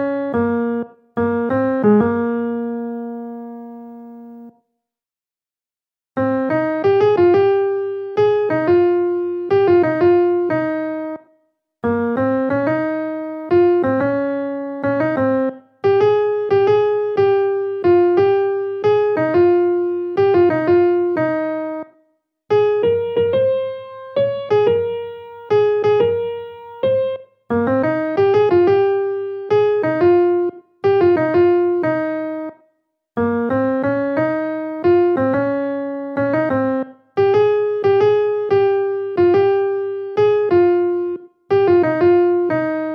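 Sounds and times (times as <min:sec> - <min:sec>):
piano melody: 0:00.0 - 0:04.5, 0:06.2 - 0:32.6, 0:33.2 - 0:42.9.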